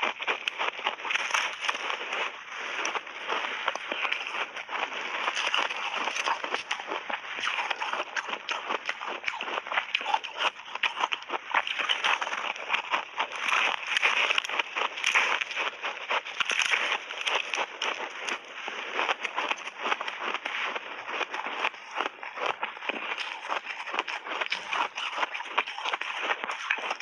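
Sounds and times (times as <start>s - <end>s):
ice crunching while chewed: 0.0s - 27.0s.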